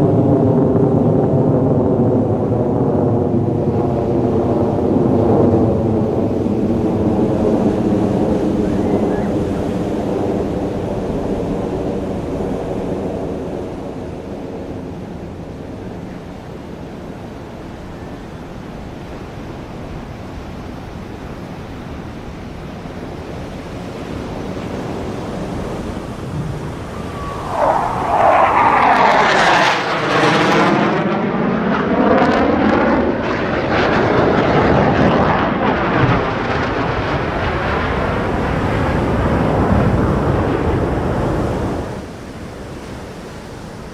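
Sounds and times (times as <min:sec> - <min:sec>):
fighter jet flying past: 0:00.0 - 0:19.4, 0:23.0 - 0:43.9.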